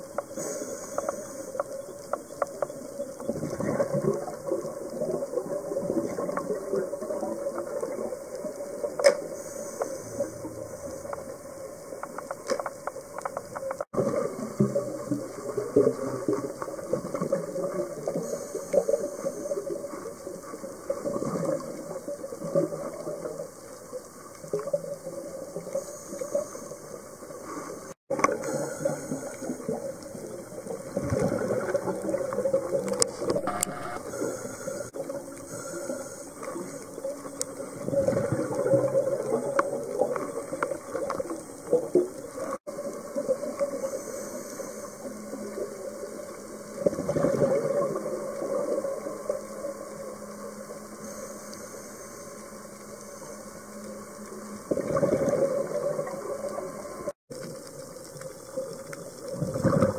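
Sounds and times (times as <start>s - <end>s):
underwater bubbling: 0.0s - 59.9s
underwater hum: 0.0s - 59.9s.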